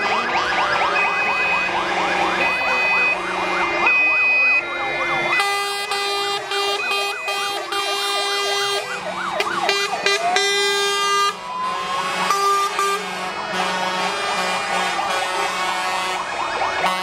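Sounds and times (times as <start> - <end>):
fire engine horn blasts: 0.0 - 17.0
fire engine sirens wailing: 0.0 - 17.0.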